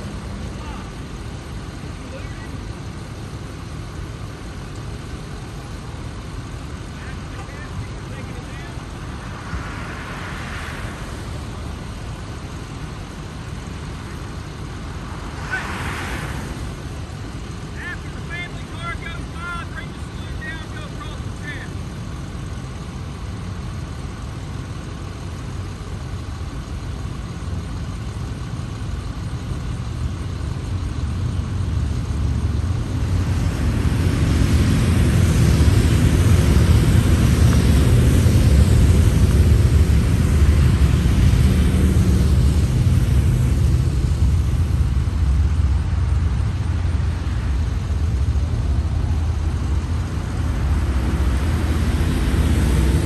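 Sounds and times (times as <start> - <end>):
motorcycles and vehicles passing: 0.0 - 4.7, 5.4 - 22.6, 29.7 - 53.0.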